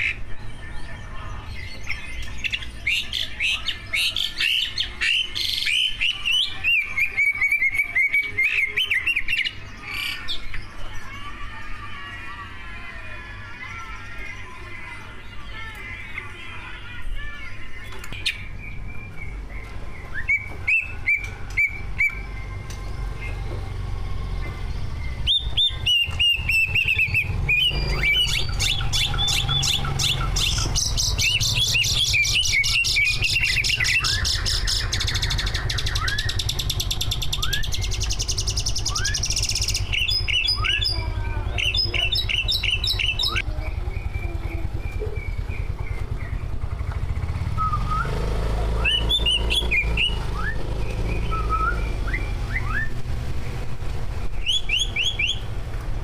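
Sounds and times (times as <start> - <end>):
bird singing trills and whistles: 0.0 - 11.1, 13.5 - 53.7, 54.3 - 55.6.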